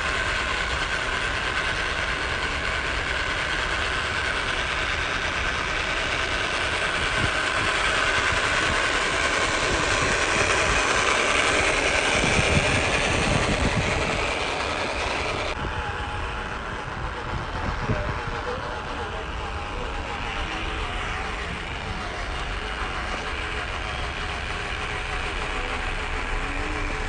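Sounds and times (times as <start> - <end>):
electric motor and gearbox whining: 0.0 - 27.0.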